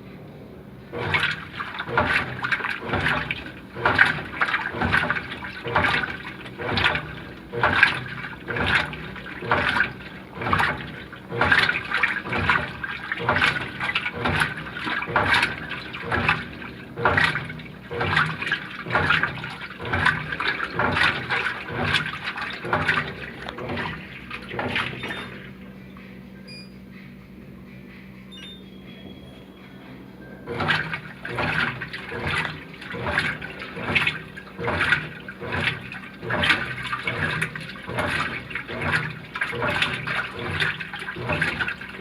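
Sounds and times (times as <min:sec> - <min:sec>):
washing machine agitating: 0:00.6 - 0:42.0
water and clothes sloshing: 0:00.8 - 0:26.0, 0:30.4 - 0:42.0.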